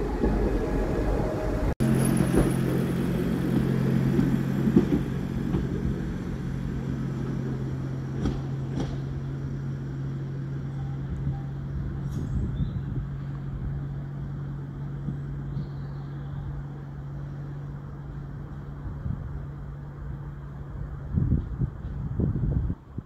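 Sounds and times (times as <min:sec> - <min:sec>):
railcar humming: 0:00.0 - 0:23.0.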